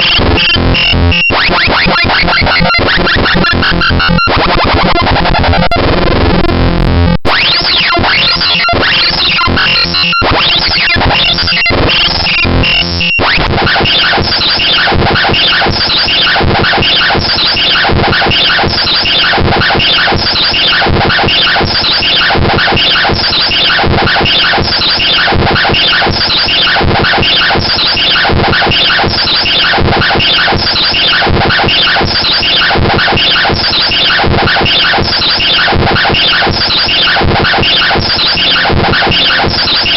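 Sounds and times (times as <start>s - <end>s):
harsh synthesized glitchy noise music: 0.0s - 39.9s.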